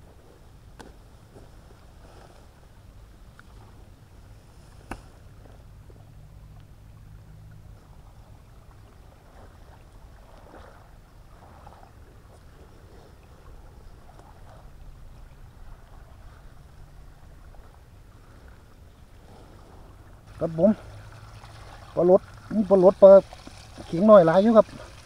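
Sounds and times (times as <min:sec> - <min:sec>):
low steady rumble: 0:00.0 - 0:25.0
water trickling and sloshing: 0:00.0 - 0:25.0.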